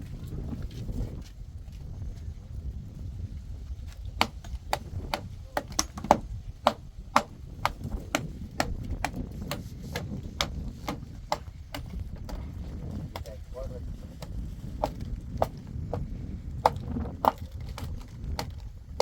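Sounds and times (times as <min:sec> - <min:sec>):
low background rumble: 0:01.4 - 0:19.0.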